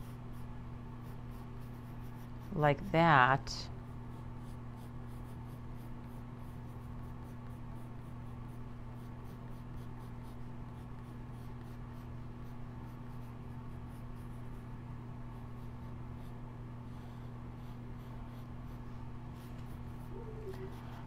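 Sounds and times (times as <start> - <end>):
pencil scratching on paper: 0.0 - 2.9, 3.8 - 21.0
low electrical hum: 0.0 - 21.0.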